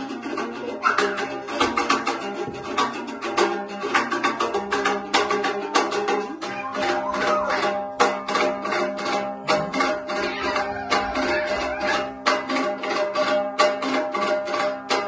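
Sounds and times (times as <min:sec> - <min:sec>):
lute strummed fast: 0:00.0 - 0:15.0.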